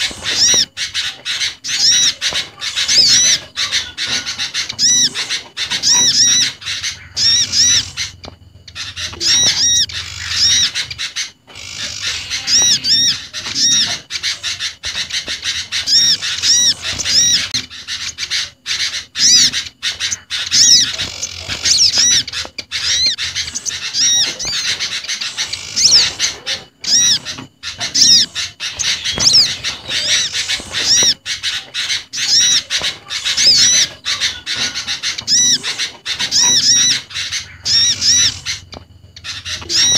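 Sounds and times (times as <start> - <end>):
songbirds calling: 0.0 - 39.9.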